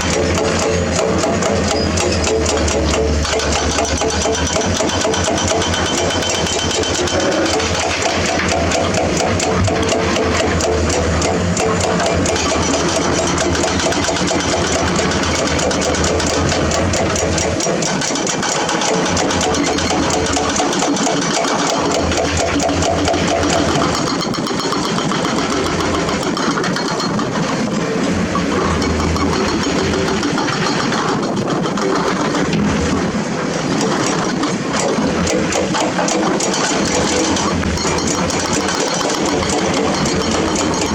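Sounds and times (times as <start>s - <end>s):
diesel engine clattering: 0.0s - 40.9s.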